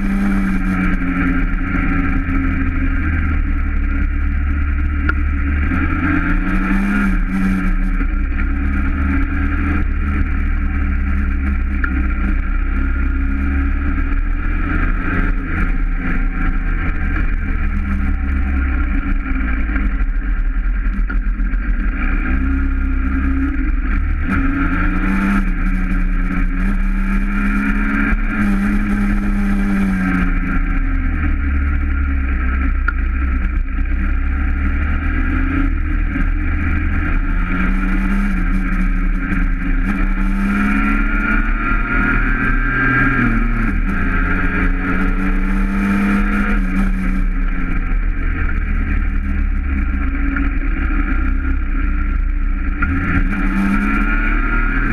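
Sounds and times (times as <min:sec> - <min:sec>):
heavy wind noise: 0:00.0 - 0:54.9
road noise: 0:00.0 - 0:54.9
vehicle engine running: 0:00.0 - 0:54.9.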